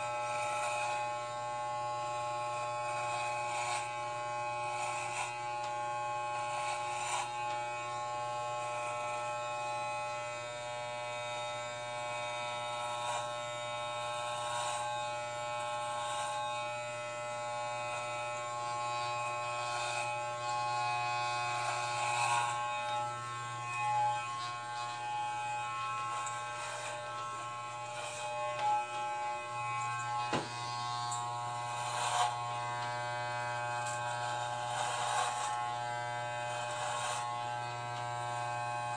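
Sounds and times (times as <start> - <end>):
electric hair clippers buzzing: 0.0 - 38.9.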